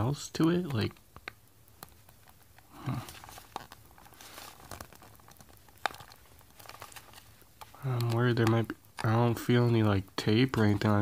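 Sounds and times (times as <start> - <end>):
plastic packaging rustling: 0.4 - 11.0.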